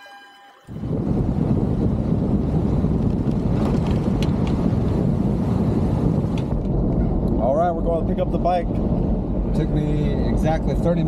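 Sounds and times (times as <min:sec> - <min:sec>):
vehicle engine and road noise: 0:00.7 - 0:11.0
wind buffeting microphone: 0:00.7 - 0:11.0.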